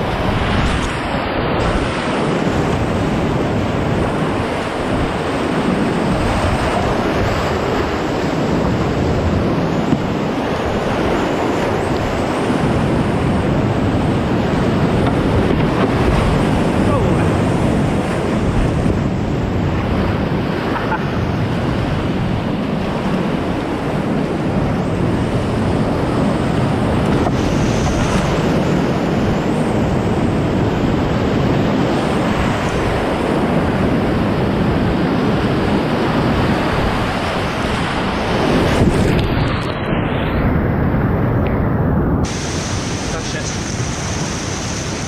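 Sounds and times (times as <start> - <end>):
river rushing over rapids: 0.0 - 41.6, 42.2 - 45.0.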